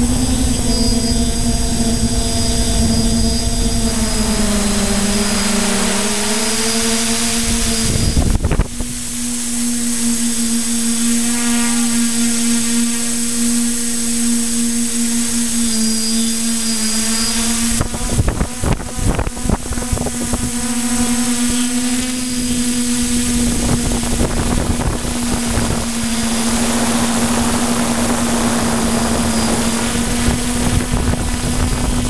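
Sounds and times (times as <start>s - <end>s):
drone motors humming: 0.0s - 32.0s
wind on microphone: 0.0s - 32.0s.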